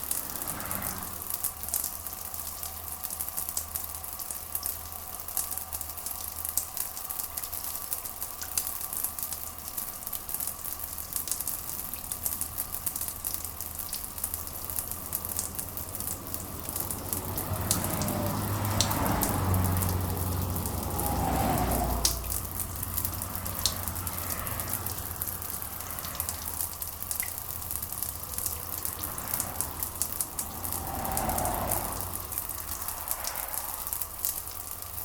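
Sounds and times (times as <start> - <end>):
sharp drips and ticks: 0.0 - 35.0
steady rain hiss: 0.0 - 35.0.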